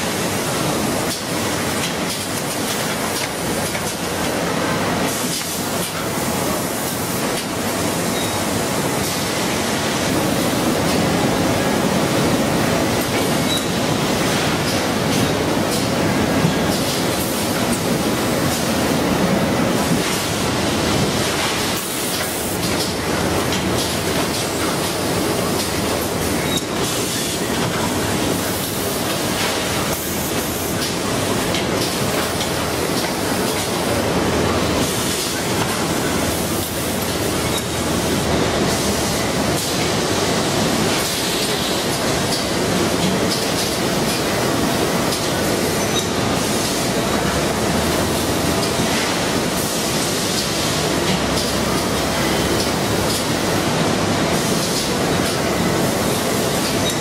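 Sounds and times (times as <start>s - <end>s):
industrial machinery running: 0.0s - 57.0s.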